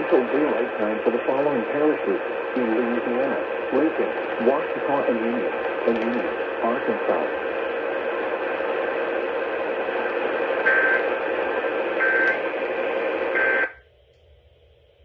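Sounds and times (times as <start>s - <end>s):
radio hiss: 0.0s - 13.8s
steady hum: 0.0s - 15.0s.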